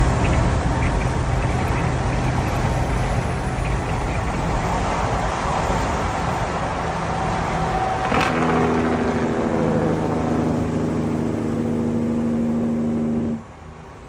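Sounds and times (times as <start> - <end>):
diesel truck engine drone: 0.0 - 14.0
road noise: 0.0 - 14.0.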